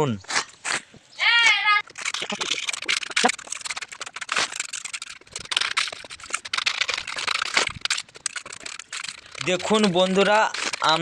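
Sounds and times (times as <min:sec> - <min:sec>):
tools scraping wet concrete: 0:00.2 - 0:11.0.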